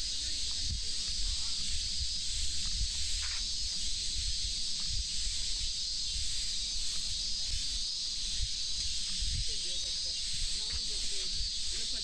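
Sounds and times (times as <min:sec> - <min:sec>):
soft low thumps and rumble: 0:00.0 - 0:09.8
cicadas droning: 0:00.0 - 0:12.0.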